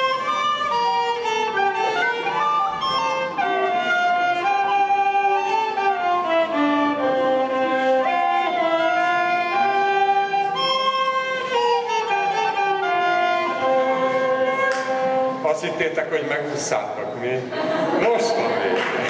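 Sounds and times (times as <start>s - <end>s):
violin: 0.0s - 19.0s.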